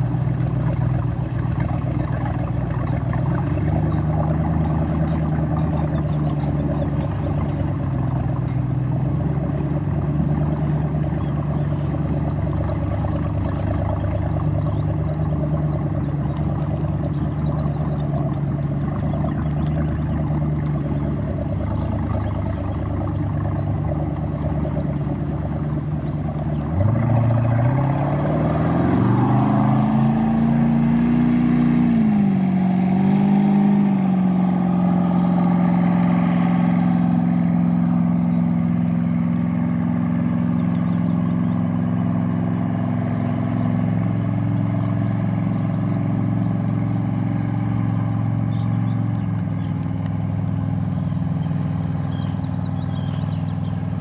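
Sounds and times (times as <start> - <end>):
speedboat engine revving: 0.0 - 54.0.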